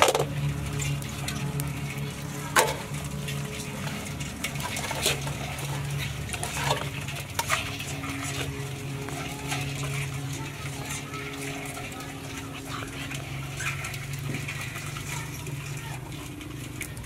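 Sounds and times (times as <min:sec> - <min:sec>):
crab shells cracking: 0:00.0 - 0:17.0
low hum: 0:00.0 - 0:17.0
scraping against metal basin: 0:00.0 - 0:17.0.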